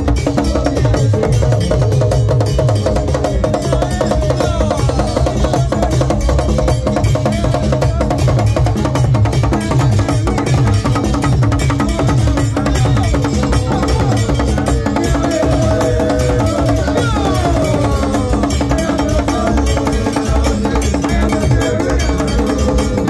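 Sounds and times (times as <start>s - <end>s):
hand drum: 0.0s - 23.0s.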